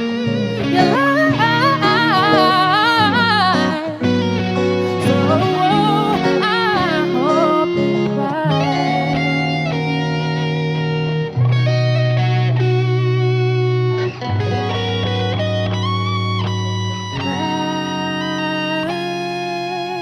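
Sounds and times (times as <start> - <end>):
bass guitar: 0.0 - 20.0
electric guitar chords: 0.0 - 20.0
bending melodic line: 0.2 - 20.0.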